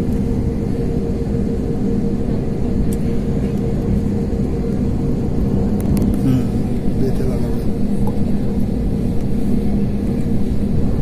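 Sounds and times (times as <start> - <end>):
airliner cabin rumble and hum: 0.0 - 11.0
constant low tone: 0.0 - 11.0.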